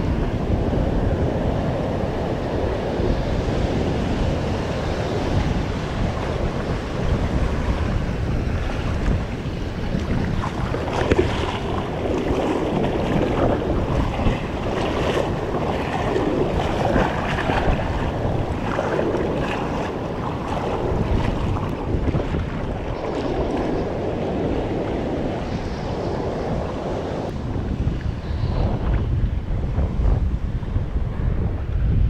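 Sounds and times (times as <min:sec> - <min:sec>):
surf and moving water: 0:00.0 - 0:32.0
wind rumbling on microphone: 0:00.0 - 0:32.0.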